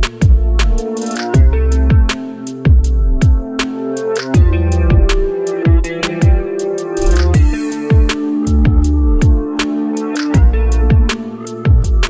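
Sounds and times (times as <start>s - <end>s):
electronic music with heavy beat: 0.0s - 12.0s.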